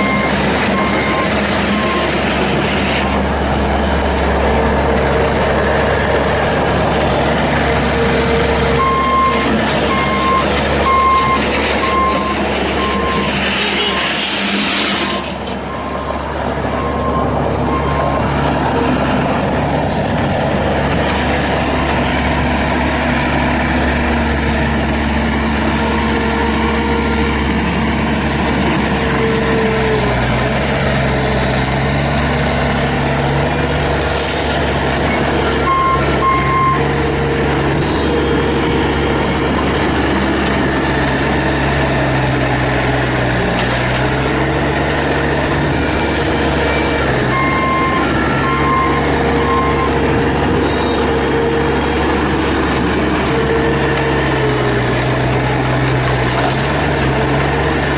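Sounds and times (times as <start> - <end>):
diesel engine running under load: 0.0 - 57.9.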